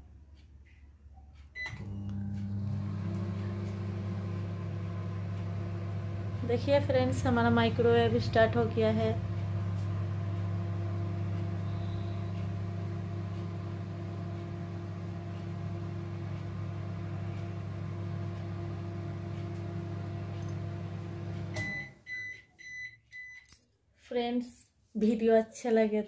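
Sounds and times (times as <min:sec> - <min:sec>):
microwave oven humming: 0:01.1 - 0:23.3.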